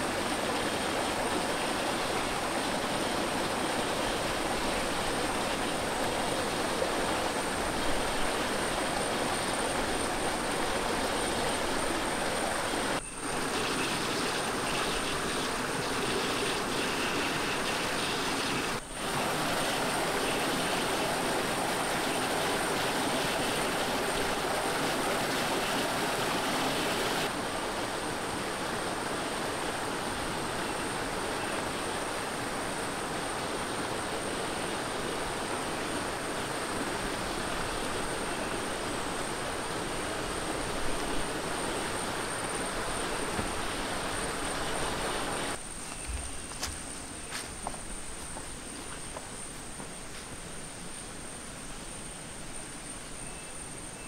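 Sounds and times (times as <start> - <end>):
stream and waterfall rushing: 0.0 - 54.0.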